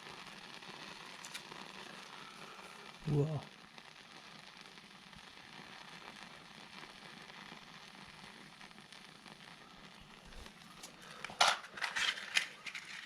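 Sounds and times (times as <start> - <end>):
wood fire hissing and crackling: 0.0 - 13.0.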